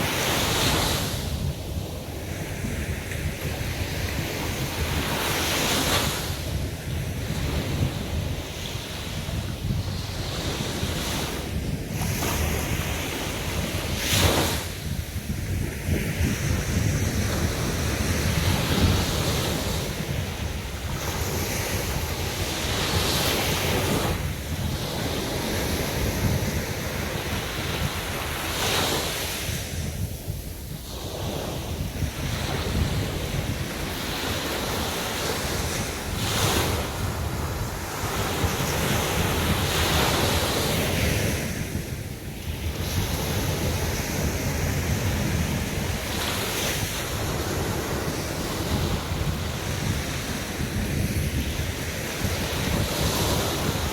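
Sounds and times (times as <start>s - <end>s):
sea waves breaking on beach: 0.0s - 53.9s
wind rumbling on microphone: 0.0s - 53.9s.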